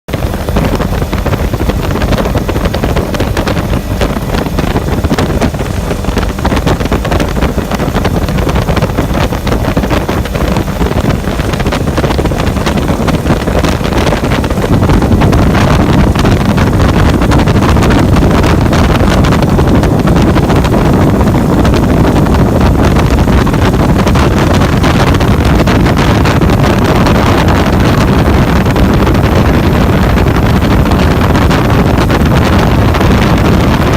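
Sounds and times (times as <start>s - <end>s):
motorboat engine running: 0.1s - 33.9s
wind buffeting microphone: 0.1s - 33.9s.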